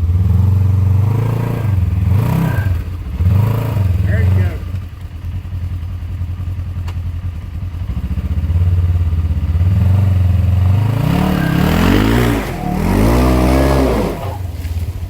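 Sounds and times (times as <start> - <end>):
off-road vehicle engine revving: 0.0 - 6.2, 7.6 - 15.0.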